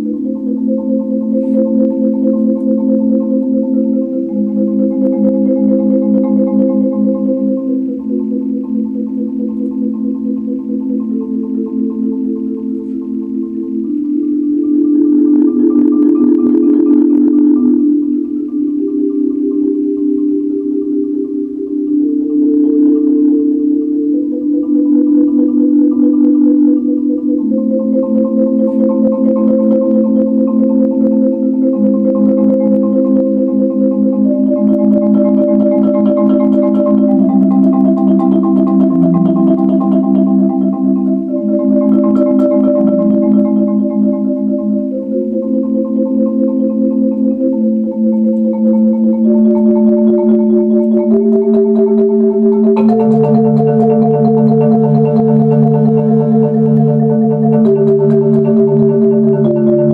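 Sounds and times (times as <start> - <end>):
marimba playing chords: 0.0 - 59.9.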